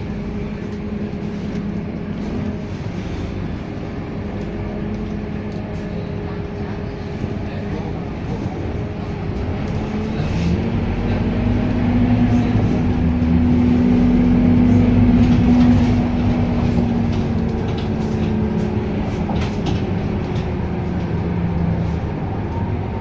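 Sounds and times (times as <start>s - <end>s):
bus diesel engine pulling away: 0.0s - 23.0s.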